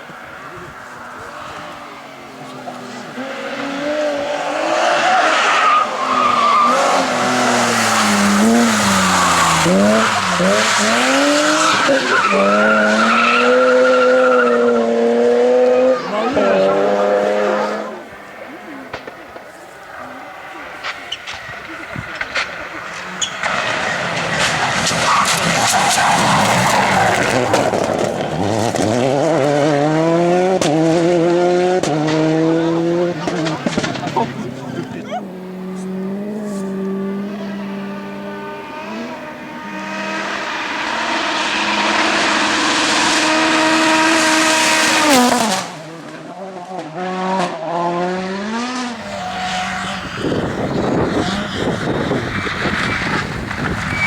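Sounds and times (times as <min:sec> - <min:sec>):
tyre noise: 0:00.0 - 0:46.4, 0:47.8 - 0:54.0
rally car engine revving: 0:00.0 - 0:54.0.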